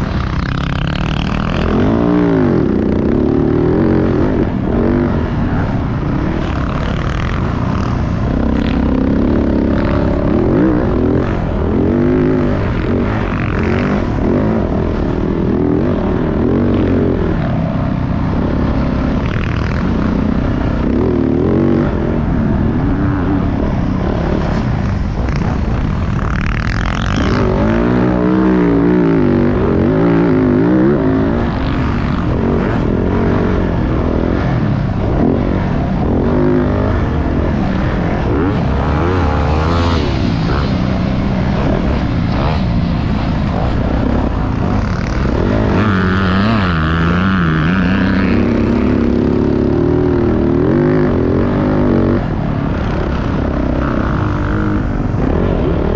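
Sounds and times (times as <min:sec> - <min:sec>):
dirt bike engine revving: 0:00.0 - 0:55.9
steady rushing noise: 0:00.0 - 0:55.9.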